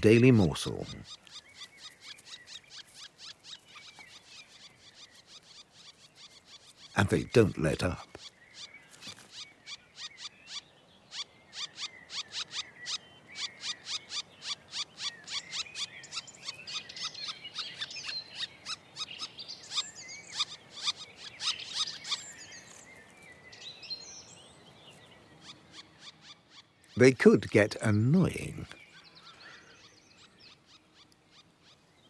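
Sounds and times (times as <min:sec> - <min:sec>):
woodpecker nestlings begging calls: 0:00.0 - 0:31.9.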